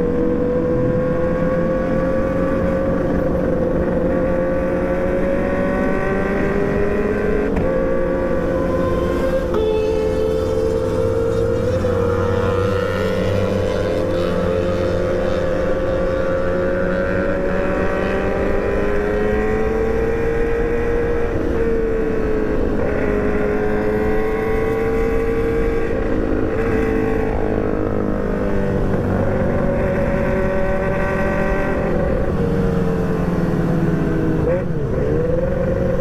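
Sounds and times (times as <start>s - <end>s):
motorcycle engine cruising: 0.0s - 36.0s
road and wind noise: 0.0s - 36.0s.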